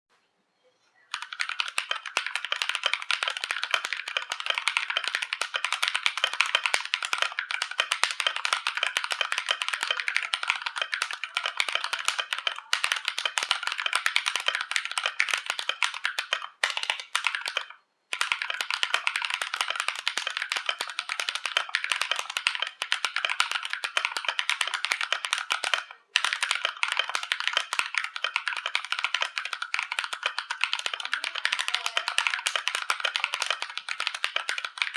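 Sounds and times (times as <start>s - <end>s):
fast mechanical keyboard typing: 1.1s - 34.9s.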